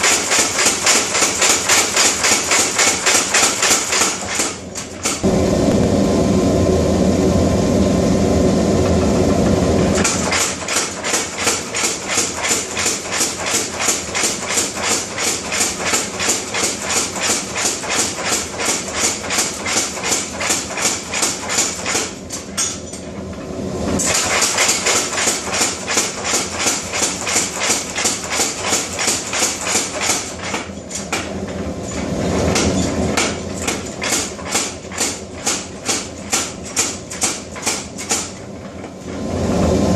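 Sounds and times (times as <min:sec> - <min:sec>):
power hammer pounding steel: 0:00.0 - 0:05.3, 0:09.8 - 0:22.7, 0:24.0 - 0:38.4.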